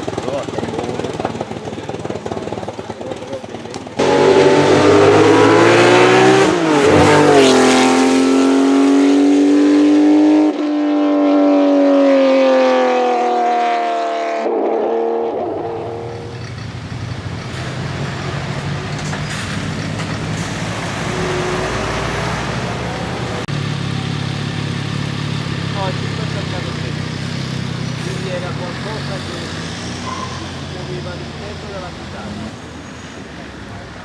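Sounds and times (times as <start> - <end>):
racing car engine accelerating: 0.0 - 32.9.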